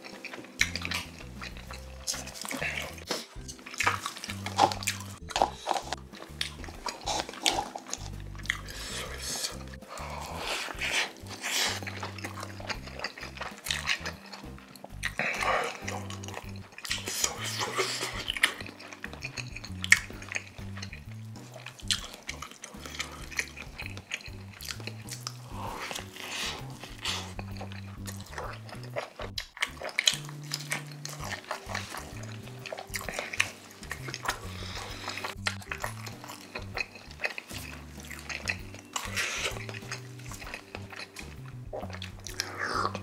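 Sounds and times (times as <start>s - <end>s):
background music with bass line: 0.0s - 43.0s
chewing crisp toasted bread: 0.0s - 43.0s.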